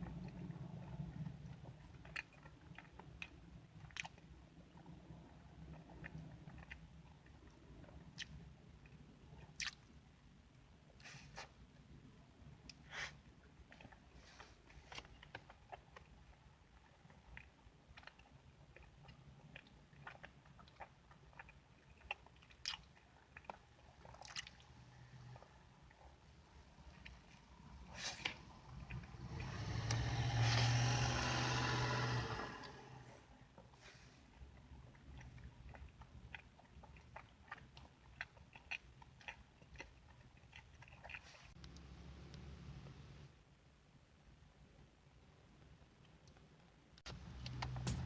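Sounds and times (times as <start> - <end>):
chewing and mouth sounds: 0.0 - 11.8, 12.4 - 42.4.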